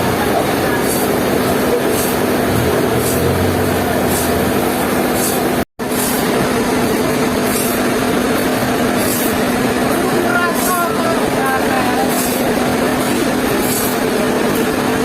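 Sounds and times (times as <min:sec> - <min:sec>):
sawmill machinery humming: 0:00.0 - 0:15.0.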